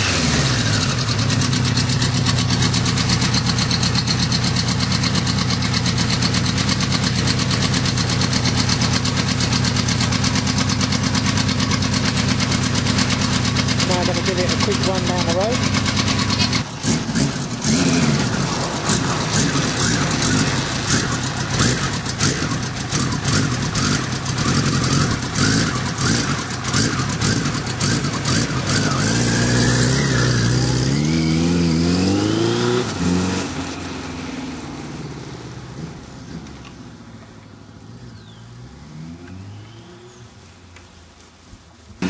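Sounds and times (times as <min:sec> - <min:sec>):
motorcycle engine revving: 0:00.0 - 0:36.8, 0:37.9 - 0:40.4.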